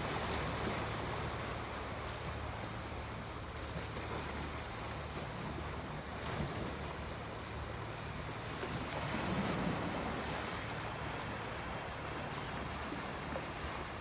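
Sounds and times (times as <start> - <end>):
sea waves washing: 0.0 - 14.0.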